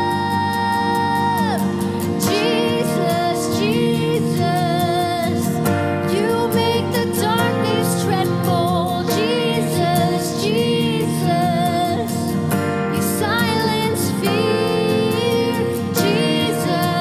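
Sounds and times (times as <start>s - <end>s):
person singing long notes: 0.0s - 12.1s, 12.9s - 17.0s
worship band music: 0.0s - 17.0s.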